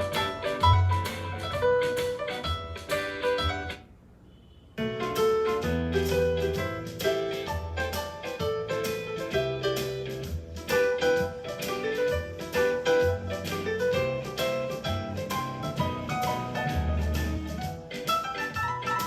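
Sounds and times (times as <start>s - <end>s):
piano music with bass line: 0.0s - 3.9s, 4.8s - 19.0s.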